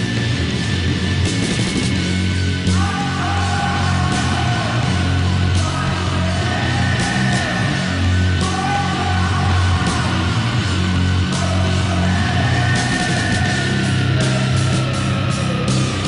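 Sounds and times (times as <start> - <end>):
heavy rock music with guitar: 0.0 - 16.0.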